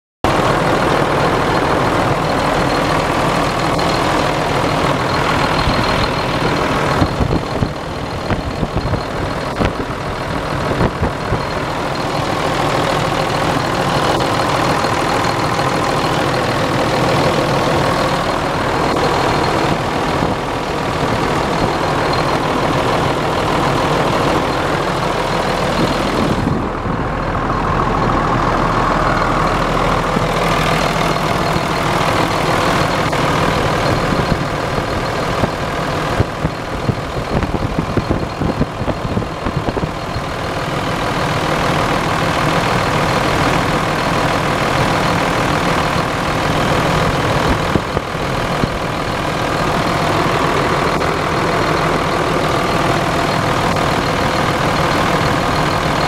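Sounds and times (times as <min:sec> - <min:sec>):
diesel engine idling: 0:00.2 - 0:56.0.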